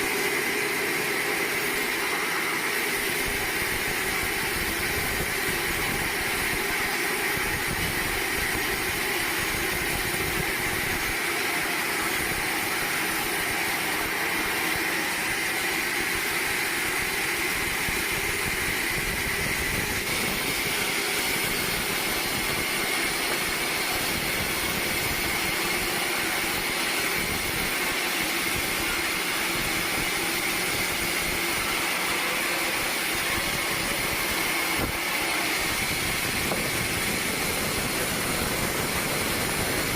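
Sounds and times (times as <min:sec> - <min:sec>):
high machine whine: 0:00.0 - 0:39.9
machinery drone: 0:07.4 - 0:39.9.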